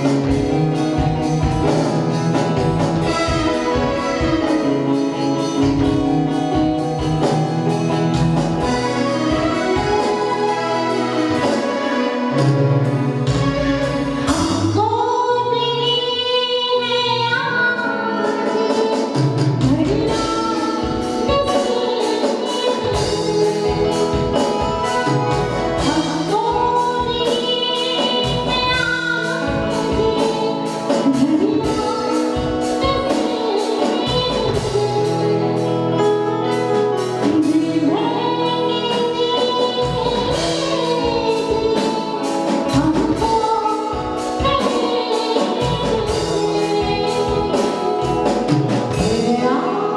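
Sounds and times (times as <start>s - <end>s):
drum kit steady beat: 0.0s - 14.9s, 18.4s - 49.9s
keyboard accompaniment: 0.0s - 49.9s
woman singing into microphone: 0.0s - 49.9s.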